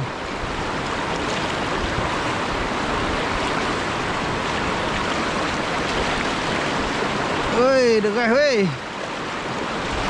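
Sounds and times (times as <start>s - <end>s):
river rushing through rocky rapids: 0.0s - 10.0s.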